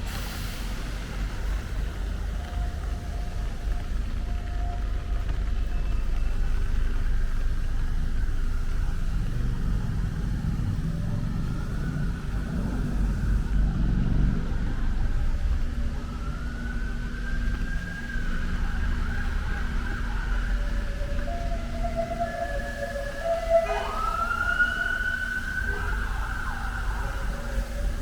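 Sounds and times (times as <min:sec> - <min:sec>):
road traffic rumble: 0:00.0 - 0:28.0
distant siren wailing: 0:01.4 - 0:28.0.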